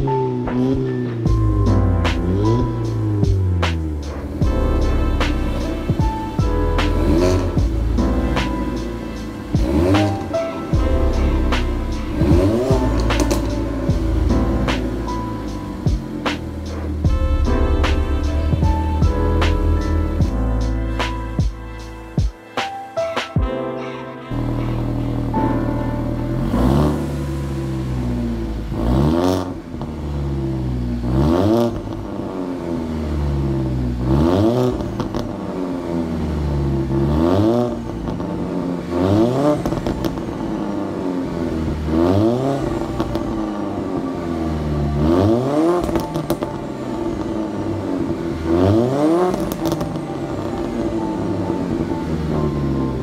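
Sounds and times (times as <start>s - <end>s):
car engine revving: 0.0s - 22.2s, 24.3s - 53.0s.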